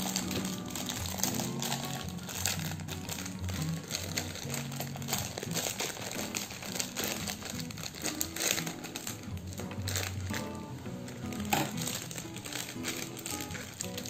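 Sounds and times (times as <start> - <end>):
background music: 0.0 - 14.0
plastic wrapper crinkling: 0.0 - 14.0.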